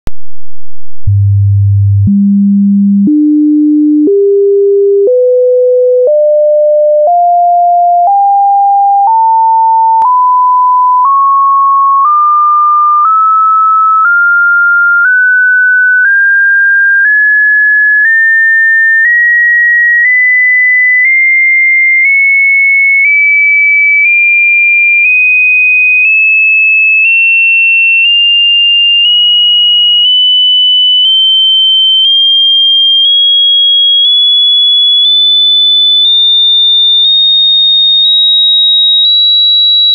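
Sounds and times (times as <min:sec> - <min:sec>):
sine tone rising in steps: 0:02.0 - 0:35.2, 0:35.8 - 0:39.9.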